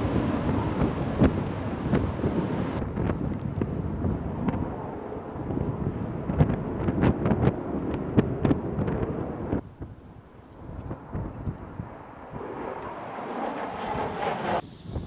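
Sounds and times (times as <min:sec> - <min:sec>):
jet engine roaring: 0:00.0 - 0:15.0
wind buffeting microphone: 0:00.0 - 0:15.0.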